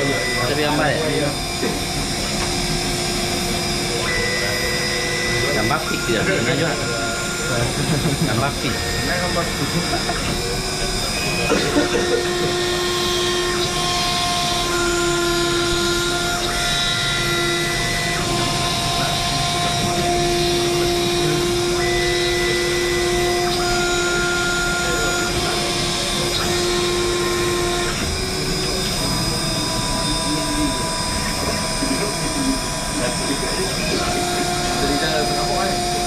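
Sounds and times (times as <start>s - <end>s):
cnc router whirring: 0.0s - 36.0s
whining tones changing pitch: 0.0s - 36.0s.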